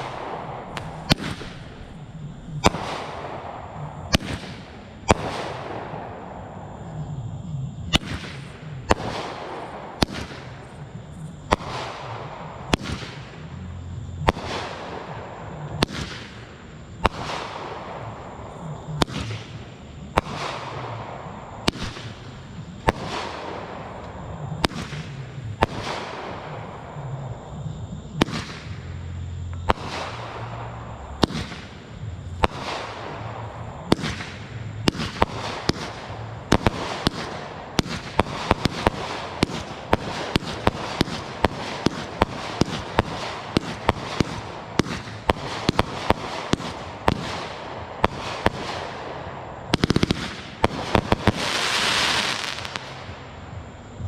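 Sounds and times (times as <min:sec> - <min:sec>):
fireworks cake firing: 0:00.0 - 0:06.4, 0:07.9 - 0:27.2, 0:28.1 - 0:53.7.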